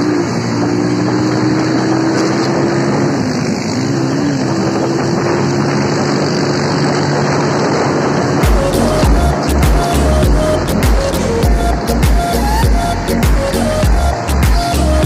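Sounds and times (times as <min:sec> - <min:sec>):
motorcycle engine running: 0:00.0 - 0:15.0
road noise: 0:00.0 - 0:15.0
wind noise: 0:00.0 - 0:15.0.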